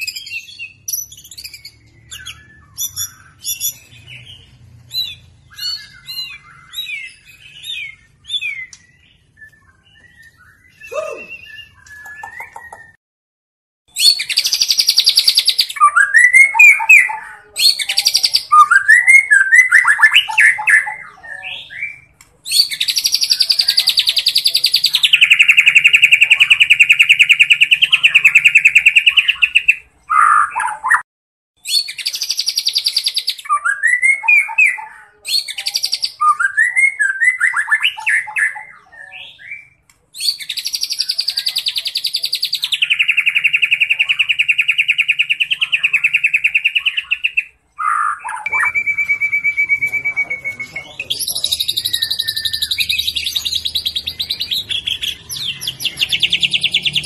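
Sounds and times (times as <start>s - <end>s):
bird whistled phrases: 5.0s - 13.0s, 13.9s - 31.0s, 31.6s - 57.0s.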